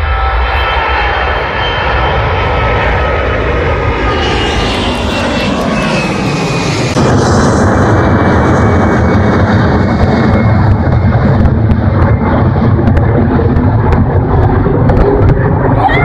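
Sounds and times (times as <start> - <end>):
high jet whine: 0.0 - 16.0
jet engines roaring: 0.0 - 16.0.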